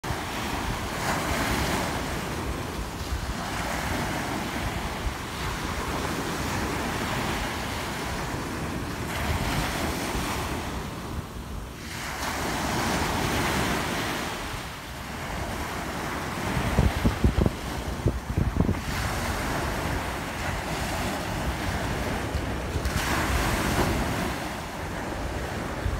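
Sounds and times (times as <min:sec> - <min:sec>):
small waves breaking: 0:00.0 - 0:25.9
wind buffeting microphone: 0:00.0 - 0:25.9.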